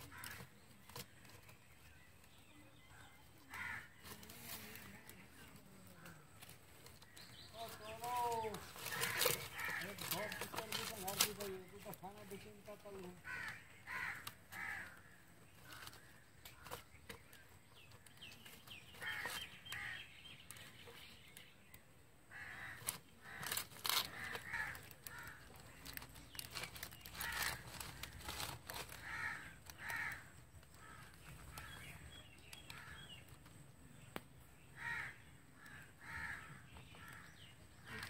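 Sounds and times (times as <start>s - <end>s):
clicks and rustles of string: 0.0s - 34.5s, 35.5s - 38.0s
harsh bird calls: 0.0s - 38.0s.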